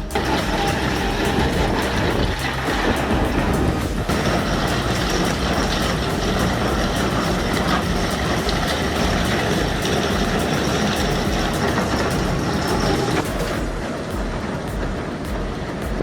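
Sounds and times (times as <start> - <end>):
heavy diesel machine running: 0.0 - 16.0.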